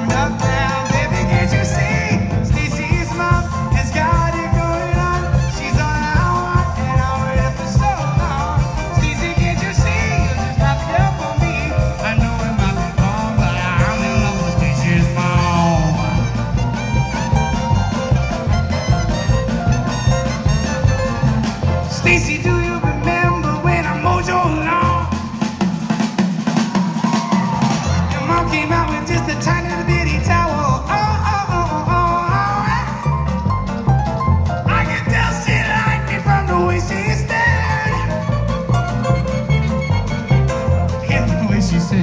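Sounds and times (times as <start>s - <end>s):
upright bass low notes: 0.0s - 25.7s, 27.6s - 42.0s
live swing band music: 0.0s - 42.0s.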